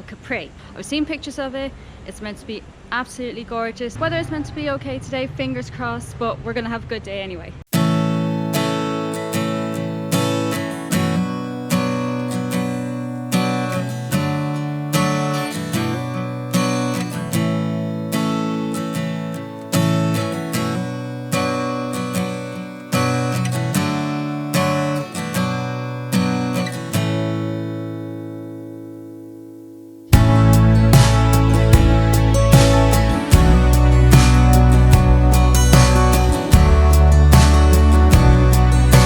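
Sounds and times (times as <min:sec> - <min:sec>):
acoustic guitar chords: 0:07.7 - 0:39.0.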